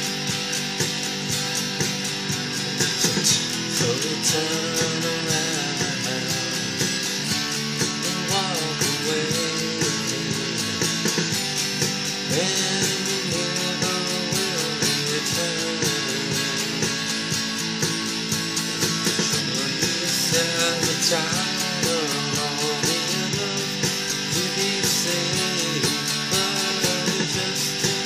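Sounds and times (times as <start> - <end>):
electric guitar strumming: 0.0 - 28.0
pitch-bending guitar melody: 0.0 - 28.0.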